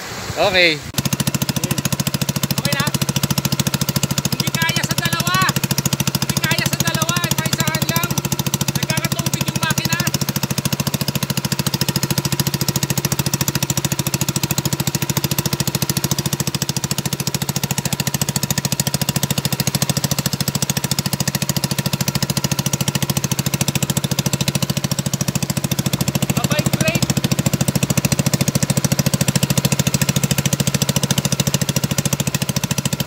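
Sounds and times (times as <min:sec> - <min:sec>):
boat engine chugging: 0:00.4 - 0:33.0.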